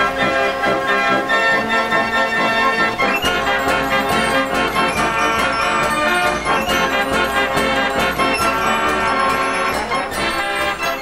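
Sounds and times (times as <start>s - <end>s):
fairground organ playing: 0.0s - 11.0s
percussion strokes: 0.0s - 11.0s.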